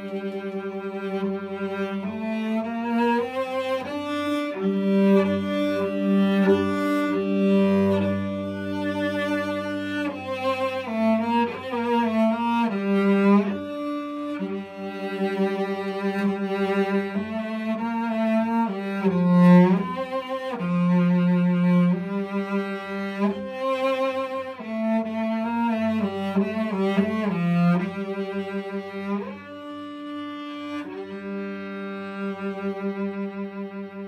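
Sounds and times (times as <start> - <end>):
bowed cello melody: 0.0 - 34.0.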